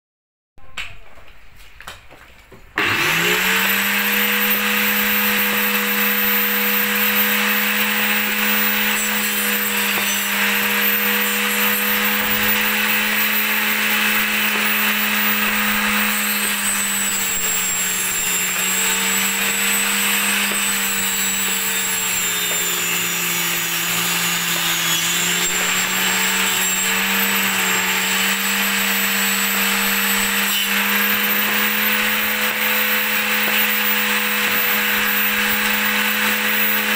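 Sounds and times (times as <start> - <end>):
table saw cutting wood: 2.8 - 36.9.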